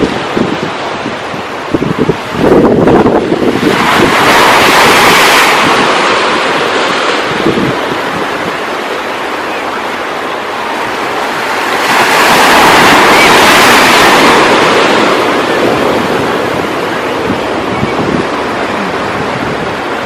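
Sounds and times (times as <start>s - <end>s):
ocean wave breaking: 0.0s - 20.0s
steady wind: 0.0s - 20.0s.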